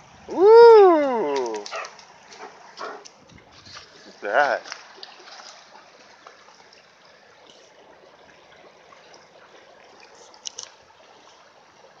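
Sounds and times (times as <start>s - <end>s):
creek water over gravel: 0.0s - 12.0s.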